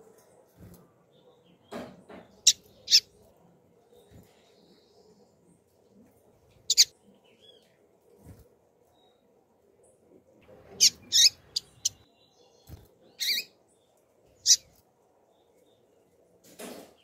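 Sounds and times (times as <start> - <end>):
bird chirping: 1.0 - 7.8, 8.9 - 16.2.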